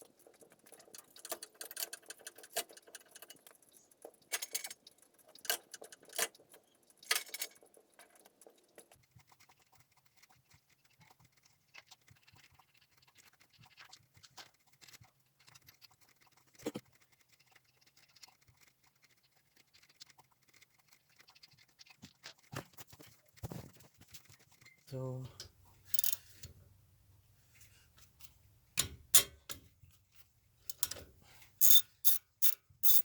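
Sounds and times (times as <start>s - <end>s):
faint clicks and scrapes: 0.0s - 33.0s.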